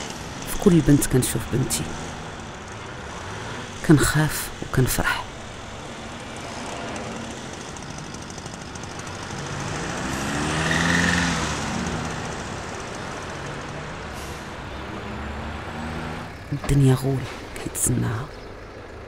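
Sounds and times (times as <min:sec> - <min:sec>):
motorcycle engines pulling away: 0:00.0 - 0:19.0
street traffic noise: 0:00.0 - 0:19.0.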